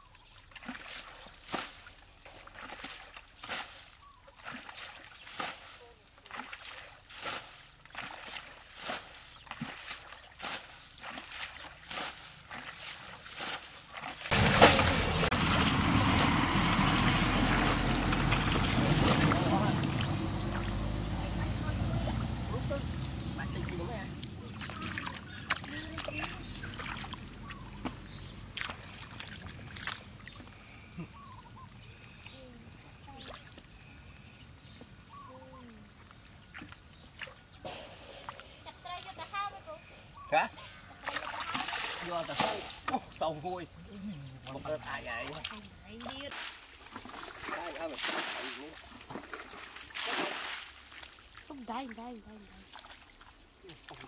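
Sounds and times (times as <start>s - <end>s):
pond water splashing: 0.0s - 54.0s.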